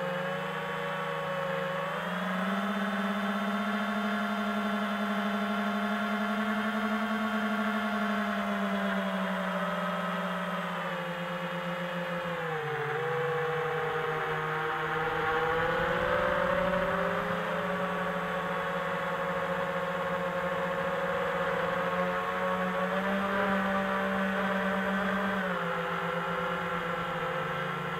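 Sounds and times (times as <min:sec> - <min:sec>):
drone propellers whirring: 0:00.1 - 0:27.9.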